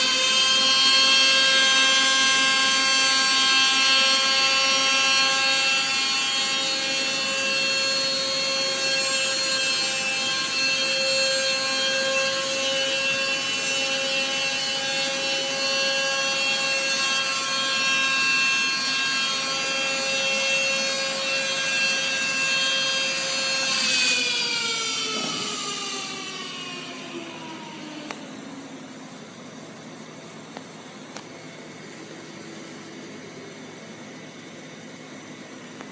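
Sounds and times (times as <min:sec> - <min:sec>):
high-speed spindle whine: 0:00.0 - 0:35.9.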